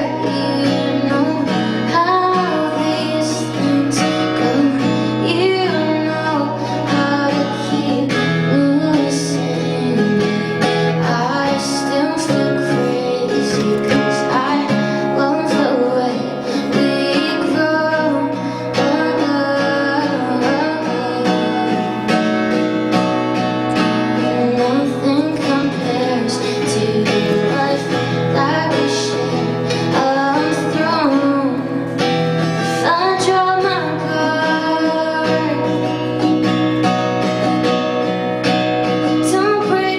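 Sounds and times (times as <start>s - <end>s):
strummed guitar: 0.0s - 39.9s
woman singing: 0.0s - 39.9s.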